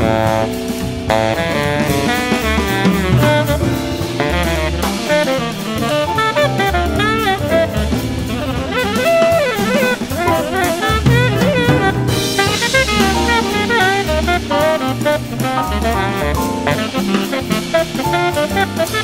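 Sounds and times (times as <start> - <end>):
jazz big band music: 0.0 - 19.0.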